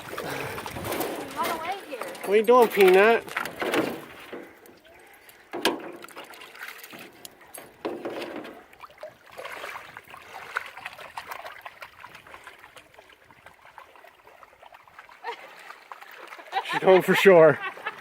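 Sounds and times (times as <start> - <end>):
river water splashing and trickling: 0.0 - 18.0.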